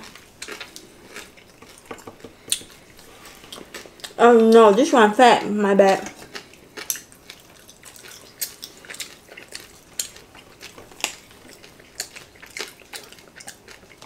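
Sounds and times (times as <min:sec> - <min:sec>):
chewing crispy food: 0:00.0 - 0:14.0.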